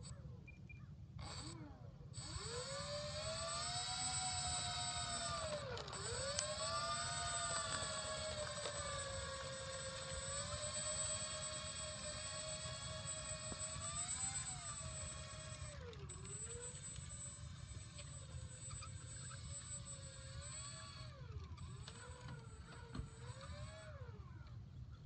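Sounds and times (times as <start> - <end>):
model plane motors whining: 1.2 - 25.0.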